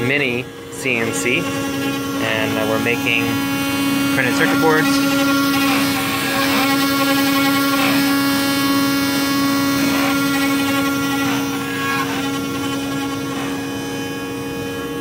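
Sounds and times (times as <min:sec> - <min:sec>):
spindle motor whining: 0:00.0 - 0:15.0.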